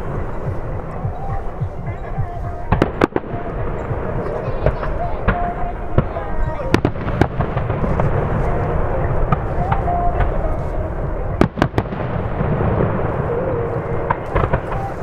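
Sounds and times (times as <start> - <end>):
fireworks booming: 0.0 - 15.0
sharp fireworks cracks: 0.0 - 15.0.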